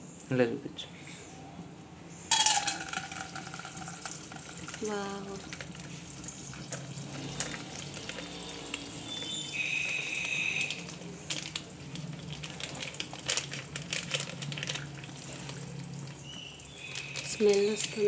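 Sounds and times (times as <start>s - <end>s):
kernels and oil pattering into pot: 2.3s - 18.0s
foil packet crinkling: 2.7s - 18.0s.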